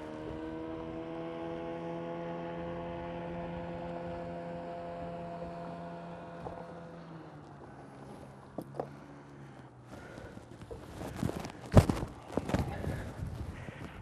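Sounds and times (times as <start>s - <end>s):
electric trolling motor humming: 0.0s - 13.8s.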